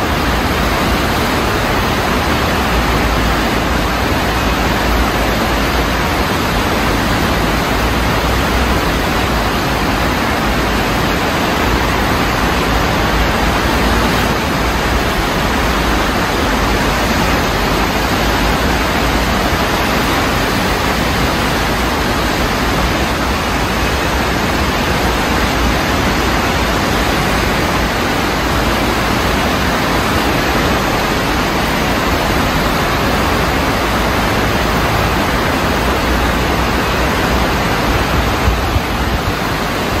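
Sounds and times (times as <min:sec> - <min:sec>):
flooded stream rushing: 0:00.0 - 0:40.0.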